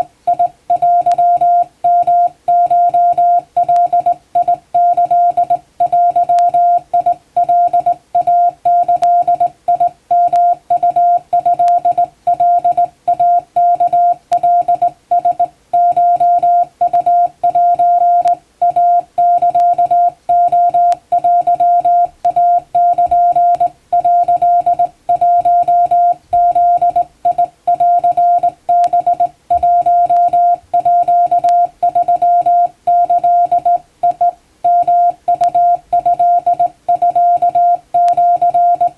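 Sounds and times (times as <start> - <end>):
morse code tone: 0.0 - 38.9.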